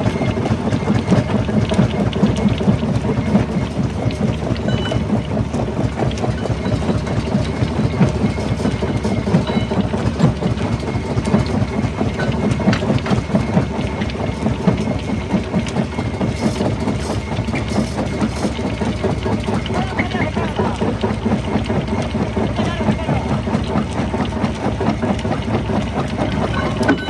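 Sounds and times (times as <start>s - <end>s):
rock crusher rumbling: 0.0s - 27.0s.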